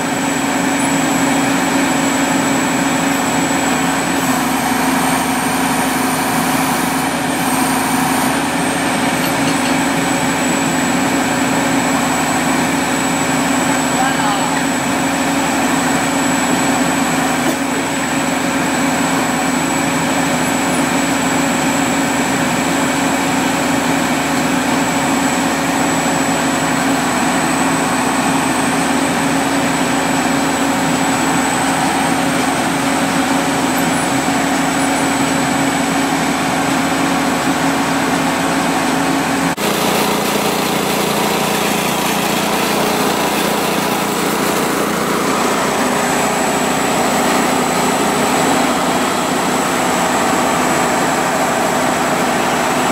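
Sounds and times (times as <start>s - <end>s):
drilling rig engine running: 0.0s - 52.9s.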